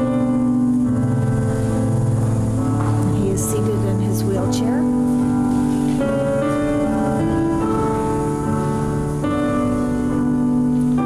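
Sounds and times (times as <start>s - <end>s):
slow instrumental processional music: 0.0s - 11.0s.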